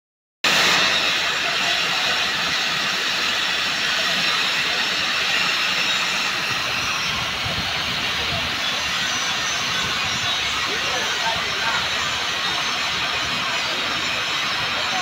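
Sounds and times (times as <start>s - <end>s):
cutting torch hissing: 0.5s - 15.0s.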